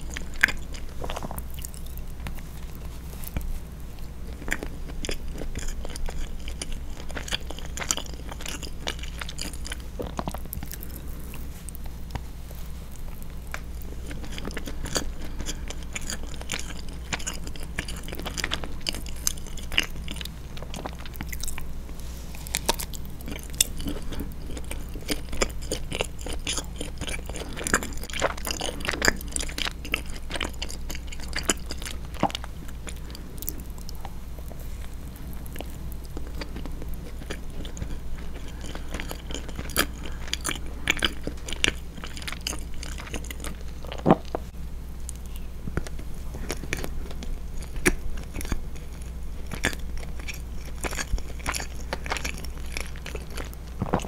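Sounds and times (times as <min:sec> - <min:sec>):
biting and chewing: 0:00.0 - 0:54.0.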